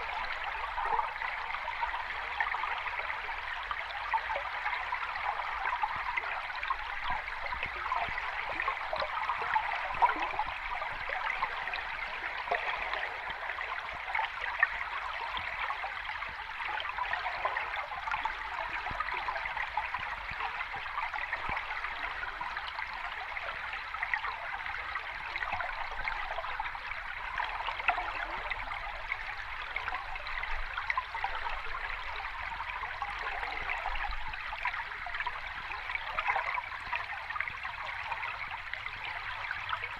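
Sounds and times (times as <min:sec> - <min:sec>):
water rushing and trickling: 0:00.0 - 0:39.9.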